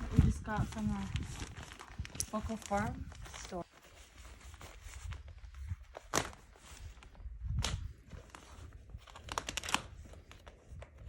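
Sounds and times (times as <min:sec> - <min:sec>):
packaging tearing and crinkling: 0:00.0 - 0:03.9, 0:04.6 - 0:11.0.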